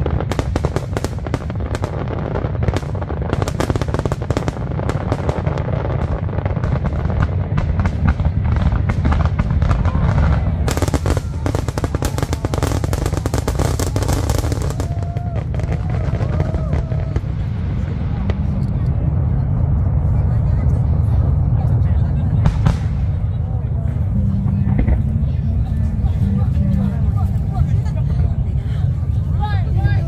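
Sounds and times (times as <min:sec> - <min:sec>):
fireworks bangs and crackles: 0:00.0 - 0:30.0
low rumble: 0:00.0 - 0:30.0.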